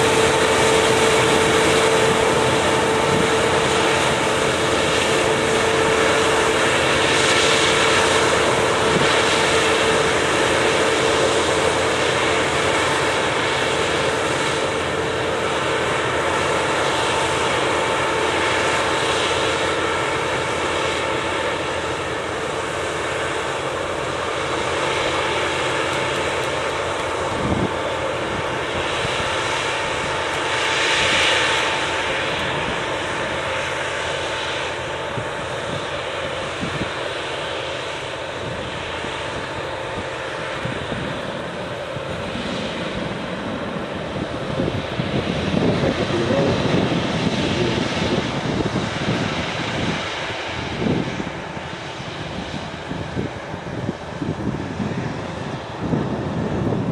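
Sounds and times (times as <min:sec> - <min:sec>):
combine harvester engine drone: 0:00.0 - 0:56.9.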